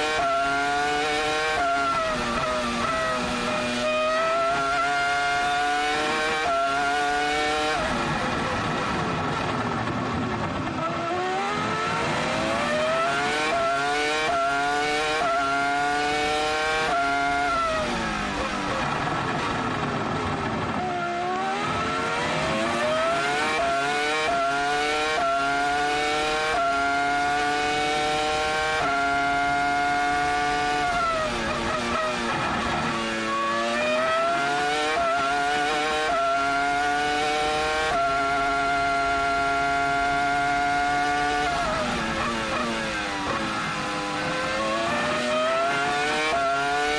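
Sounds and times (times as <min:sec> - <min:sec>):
gear changes: 0:00.0 - 0:46.9
racing car engine revving: 0:00.0 - 0:46.9.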